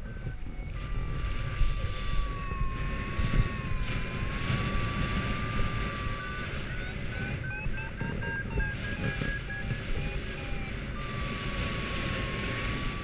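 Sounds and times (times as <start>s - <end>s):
long high tone: 0.0s - 13.0s
wind rushing over microphone: 0.0s - 13.0s.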